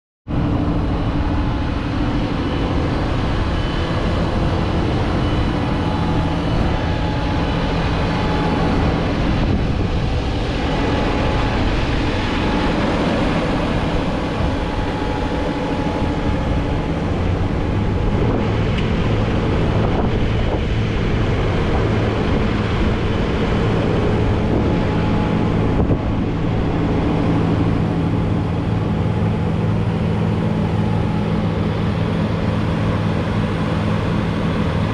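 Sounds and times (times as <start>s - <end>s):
diesel engine running: 0.3s - 34.9s
wind on microphone: 0.3s - 34.9s.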